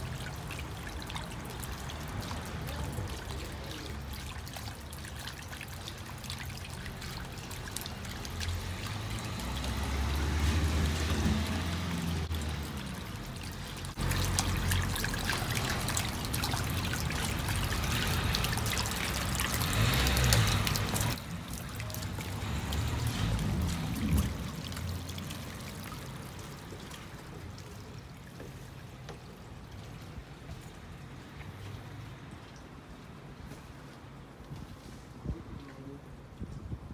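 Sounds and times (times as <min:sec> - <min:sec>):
water trickling down stone steps: 0:00.0 - 0:36.9.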